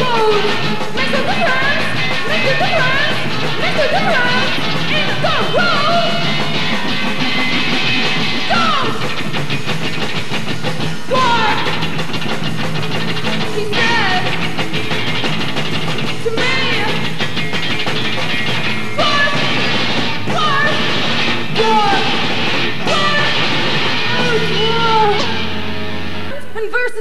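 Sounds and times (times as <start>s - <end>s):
drum kit: 0.0s - 26.4s
electric guitars: 0.0s - 26.6s
high sliding guitar figure: 0.0s - 26.6s.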